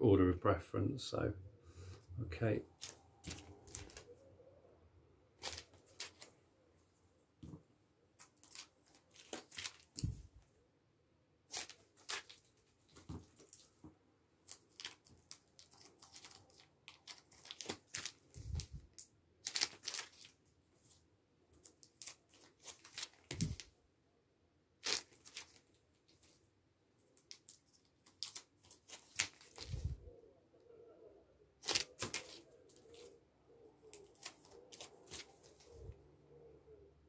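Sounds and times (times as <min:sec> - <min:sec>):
record sleeves rustling and crinkling: 0:01.9 - 0:04.3, 0:05.3 - 0:10.5, 0:11.4 - 0:23.8, 0:24.8 - 0:30.1, 0:31.6 - 0:36.0.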